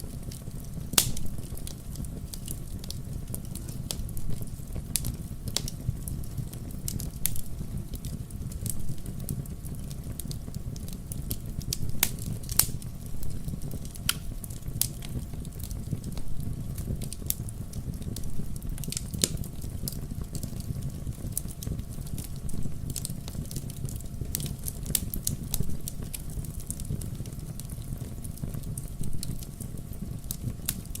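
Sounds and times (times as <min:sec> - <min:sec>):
fire rumbling: 0:00.0 - 0:31.0
logs crackling and popping: 0:00.0 - 0:31.0.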